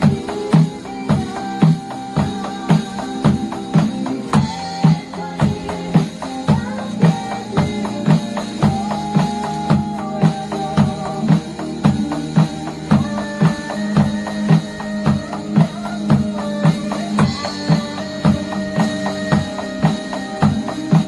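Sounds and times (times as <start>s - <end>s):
drum kit playing: 0.0s - 21.0s
pop-rock music with guitar: 0.0s - 21.0s.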